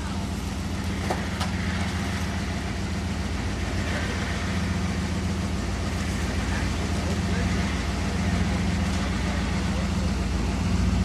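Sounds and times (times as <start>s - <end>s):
truck engine running at low revs: 0.0s - 11.0s.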